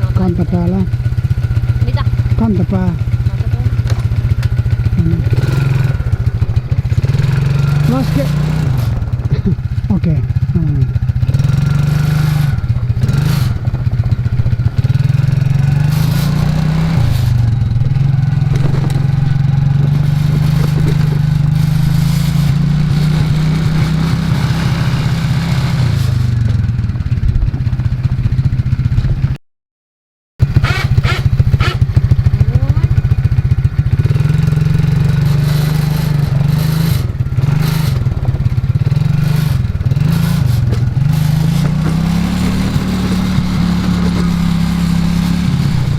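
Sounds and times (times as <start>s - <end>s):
atv engine revving: 0.0s - 29.4s, 30.4s - 45.9s.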